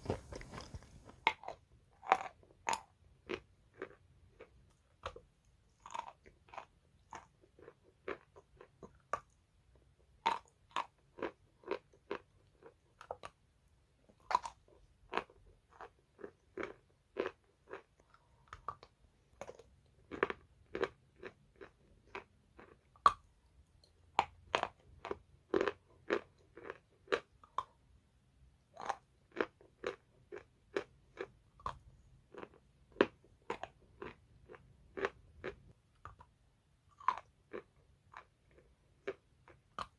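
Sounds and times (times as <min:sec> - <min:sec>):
chalk being chewed crunching: 0:00.0 - 0:13.4, 0:14.1 - 0:27.8, 0:28.8 - 0:39.9.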